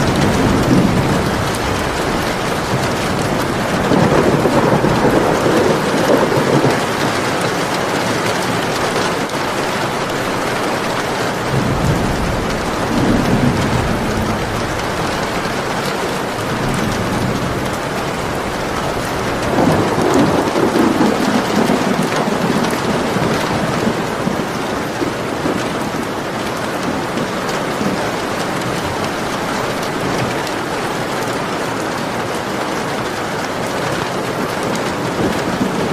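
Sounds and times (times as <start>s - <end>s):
heavy rain falling: 0.0s - 35.9s
thunder rumbling: 0.0s - 35.9s.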